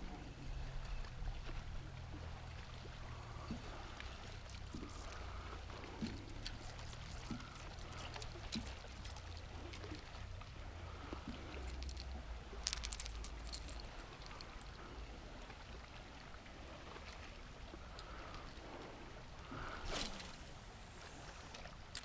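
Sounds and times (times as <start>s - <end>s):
steady low rumble: 0.0s - 22.0s
water lapping against boat hull: 0.0s - 22.0s.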